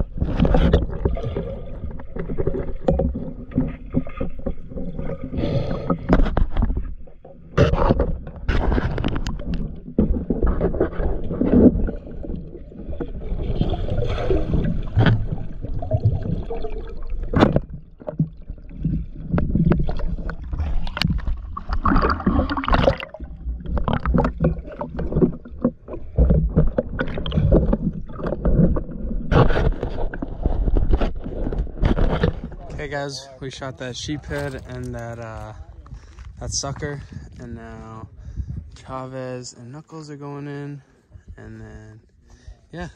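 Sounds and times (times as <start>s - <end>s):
underwater water rush: 0.0s - 36.0s.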